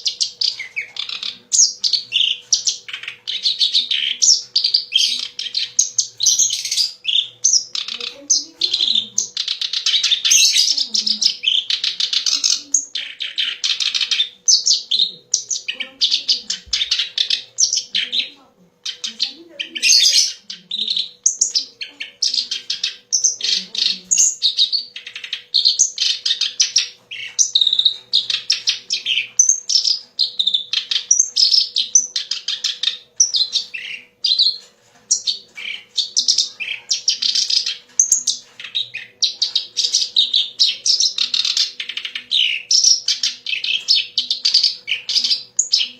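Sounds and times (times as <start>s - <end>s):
reed warbler singing: 0.0s - 45.9s.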